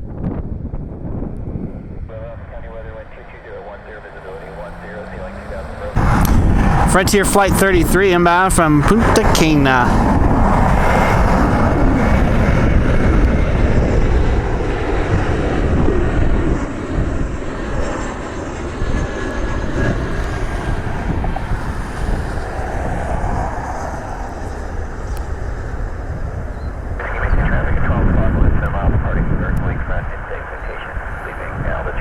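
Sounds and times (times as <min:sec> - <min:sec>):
airliner jet engines passing: 0:00.0 - 0:32.0.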